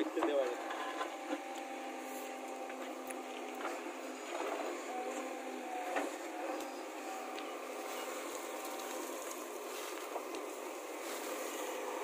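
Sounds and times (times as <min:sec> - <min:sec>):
diesel engine under load: 0:00.0 - 0:12.0
faint steady whine: 0:00.0 - 0:12.0.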